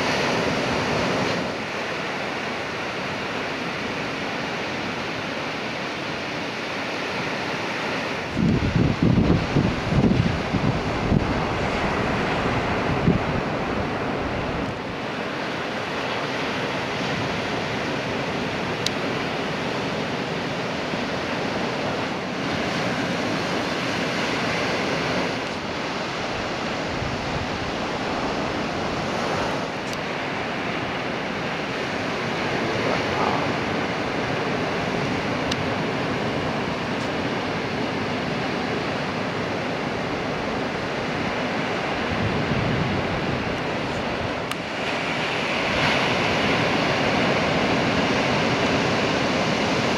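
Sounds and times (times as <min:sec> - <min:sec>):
ocean surf breaking: 0:00.0 - 0:49.9
wind on microphone: 0:08.2 - 0:49.9.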